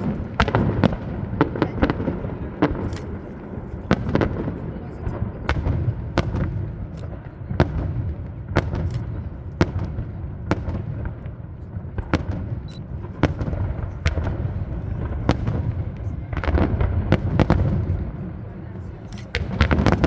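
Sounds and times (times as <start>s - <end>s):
distant firework bursts: 0.0s - 18.4s, 19.0s - 20.0s
firework bangs: 0.0s - 20.0s.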